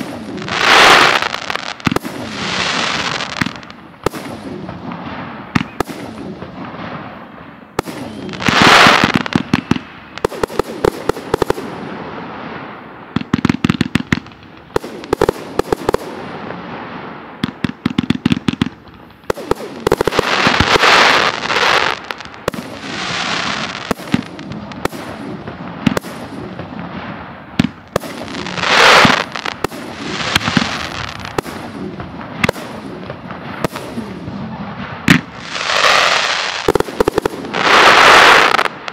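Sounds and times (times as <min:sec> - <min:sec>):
fireworks bursting in sharp bangs: 0:00.0 - 0:38.9.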